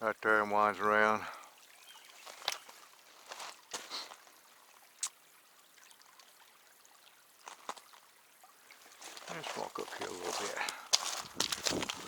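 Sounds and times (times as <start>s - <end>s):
small stream rushing: 0.0s - 12.0s.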